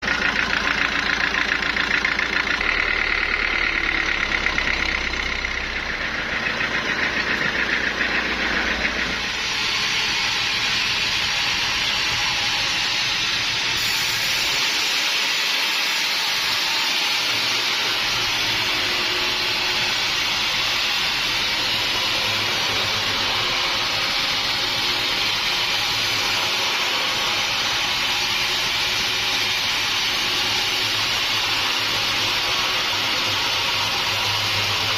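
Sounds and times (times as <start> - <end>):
engine running with pulsing rhythm: 0.0 - 34.9
loud hissing machine noise: 0.0 - 34.9.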